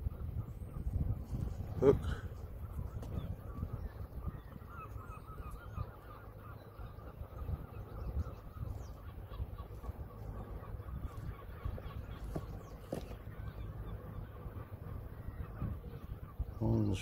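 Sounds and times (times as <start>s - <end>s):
birds chattering: 0.0s - 17.0s.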